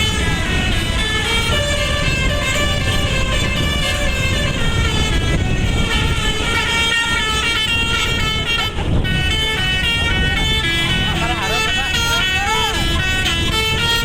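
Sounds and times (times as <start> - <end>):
bus engine rumble: 0.0 - 14.0
musical air horn melody: 0.0 - 14.0.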